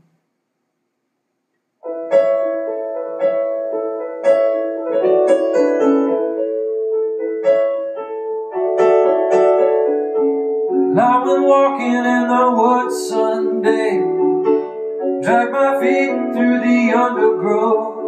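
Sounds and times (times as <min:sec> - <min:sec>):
sustained piano chords: 0:01.8 - 0:18.0.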